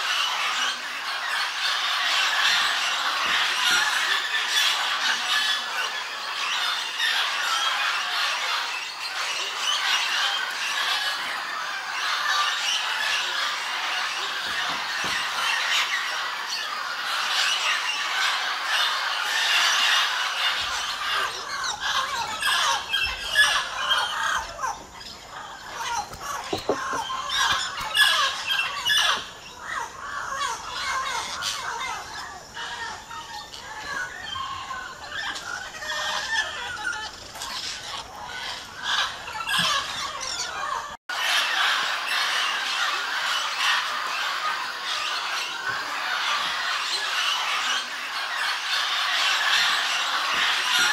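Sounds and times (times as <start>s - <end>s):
parrots squawking: 0.0s - 50.9s.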